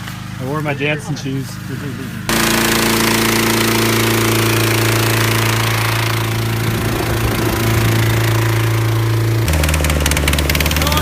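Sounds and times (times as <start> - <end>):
fan rushing air: 0.0 - 11.0
small gasoline engine running: 0.1 - 11.0.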